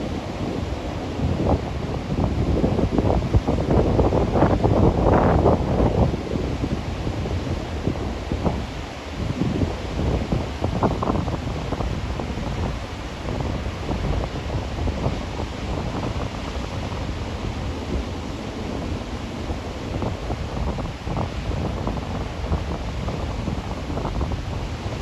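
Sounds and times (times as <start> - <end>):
heavy ocean surf: 0.0 - 25.0
wind buffeting microphone: 0.0 - 25.0.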